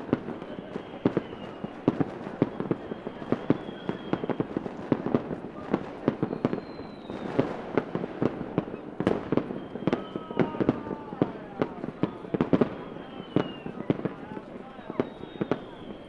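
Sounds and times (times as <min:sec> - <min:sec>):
faint firework whistles: 0:00.0 - 0:16.0
fireworks popping and crackling: 0:00.0 - 0:16.0.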